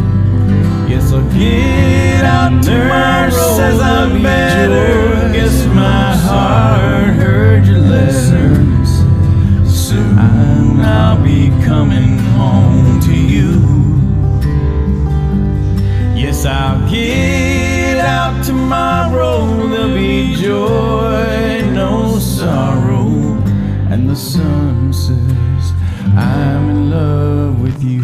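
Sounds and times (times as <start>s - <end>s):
acoustic country guitar music: 0.0s - 28.0s.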